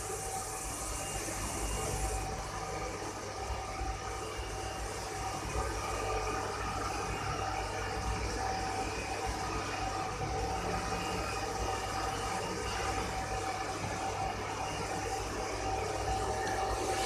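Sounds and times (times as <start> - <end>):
machine humming with faint whine: 0.0 - 17.0.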